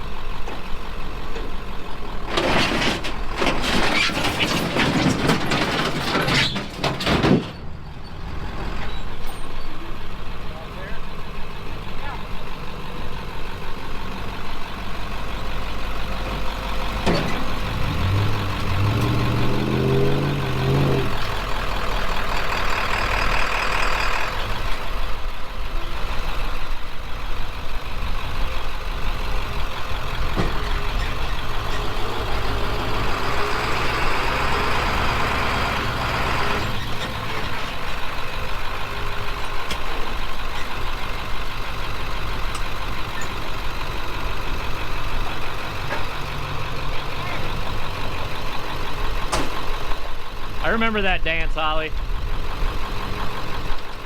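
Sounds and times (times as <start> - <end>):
heavy truck engine running: 0.0 - 54.0.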